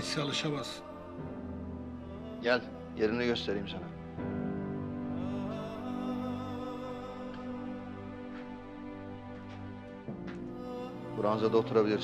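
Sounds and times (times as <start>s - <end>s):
slow sad music: 0.0s - 12.0s.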